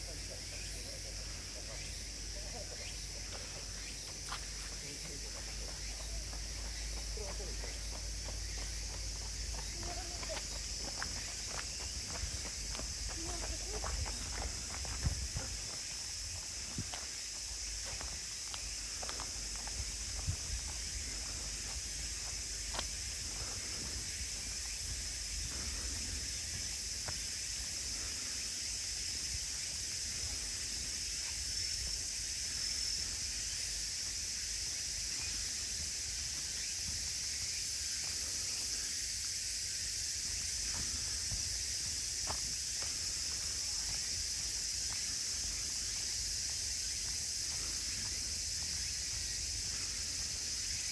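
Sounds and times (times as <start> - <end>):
faint footsteps on path: 0.0 - 50.9
insects chorus: 0.0 - 50.9.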